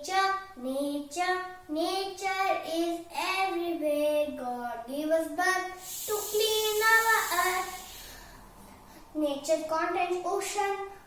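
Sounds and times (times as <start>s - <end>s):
child singing: 0.0s - 8.0s, 9.2s - 11.0s.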